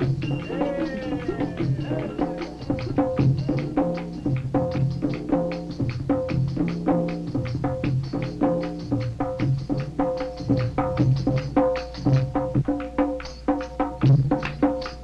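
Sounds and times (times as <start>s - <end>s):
fast folk drumming: 0.0s - 15.0s.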